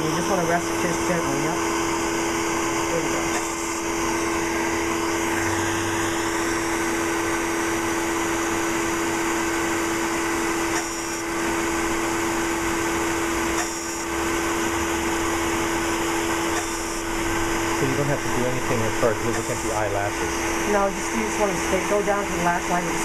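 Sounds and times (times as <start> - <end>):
machine cooling whirring hum: 0.0 - 23.0.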